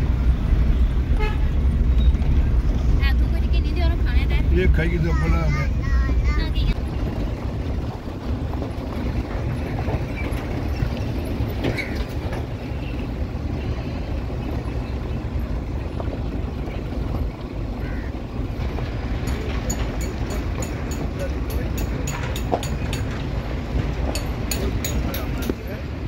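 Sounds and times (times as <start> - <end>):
tyres rumbling on gravel: 1.0 - 26.0.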